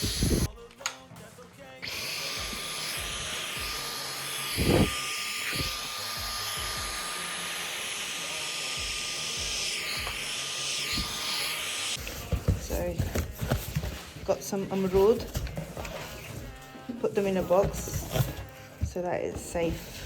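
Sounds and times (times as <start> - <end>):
vacuum cleaner running: 0.0 - 0.5, 1.8 - 20.0.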